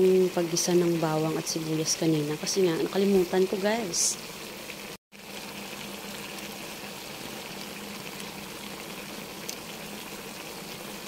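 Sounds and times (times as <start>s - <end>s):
stew simmering and bubbling: 0.0s - 11.0s.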